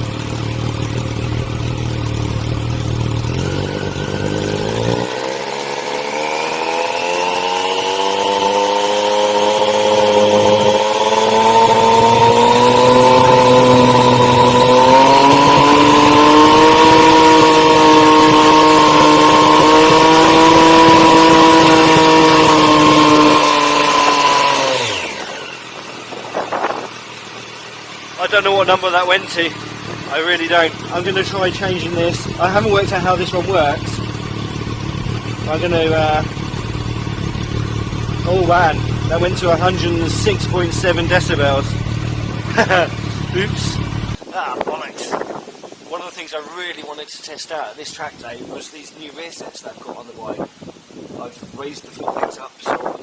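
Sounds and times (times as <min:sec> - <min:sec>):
motorcycle engine revving: 0:00.0 - 0:44.3.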